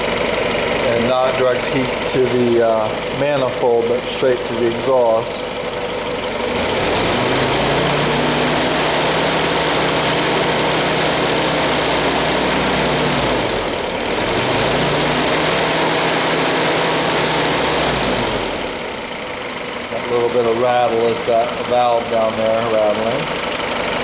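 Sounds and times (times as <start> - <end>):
valve rattling: 0.0 - 14.3, 18.6 - 24.0
engine idling: 0.0 - 24.0.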